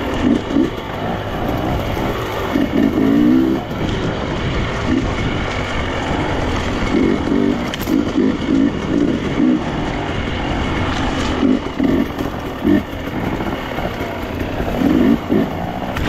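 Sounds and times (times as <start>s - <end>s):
motorcycle engine revving: 0.0s - 16.0s
rumbling noise: 0.0s - 16.0s.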